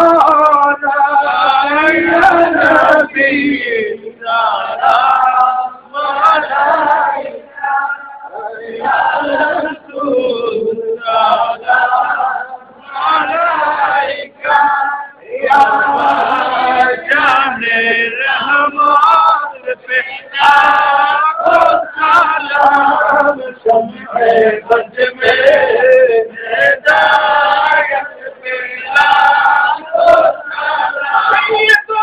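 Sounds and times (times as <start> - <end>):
men singing unaccompanied: 0.0 - 32.0.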